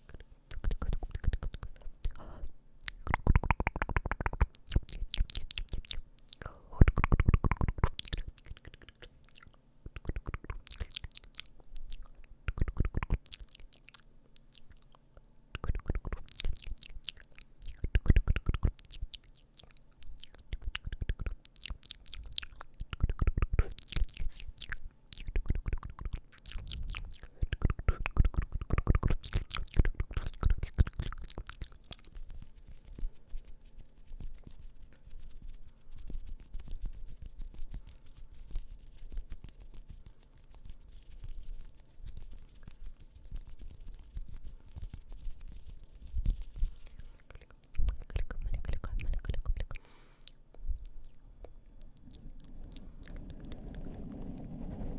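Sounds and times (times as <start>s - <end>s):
wet mouth clicks and smacks: 0.0s - 54.0s.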